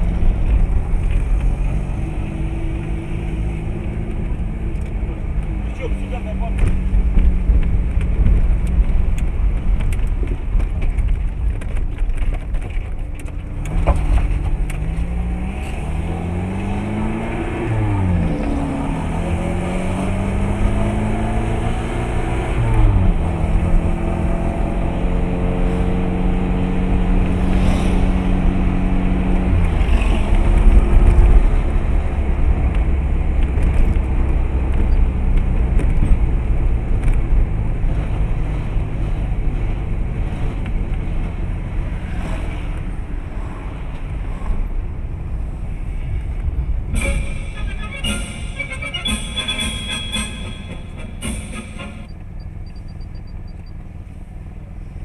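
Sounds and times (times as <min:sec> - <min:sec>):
car engine accelerating: 0:00.0 - 0:50.2
road rumble inside car: 0:00.0 - 0:55.0.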